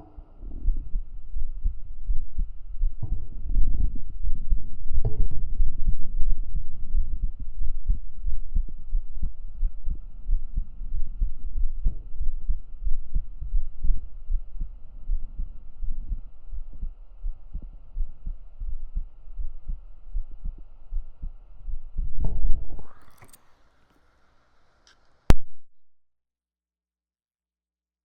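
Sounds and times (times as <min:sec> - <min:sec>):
heartbeat thumps: 0:00.2 - 0:23.0.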